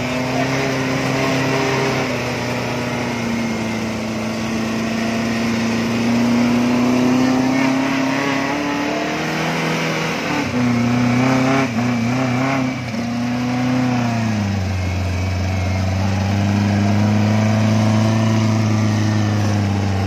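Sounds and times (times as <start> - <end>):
jeep engine at high revs: 0.0 - 20.0.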